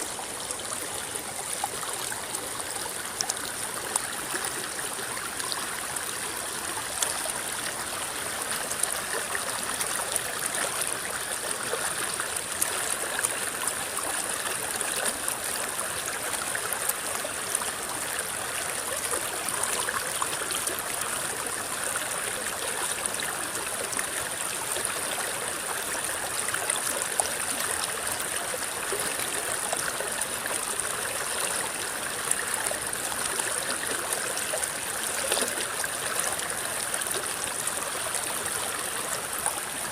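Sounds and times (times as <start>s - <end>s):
river water babbling: 0.0s - 39.9s
water trickles and splashes: 0.0s - 39.9s.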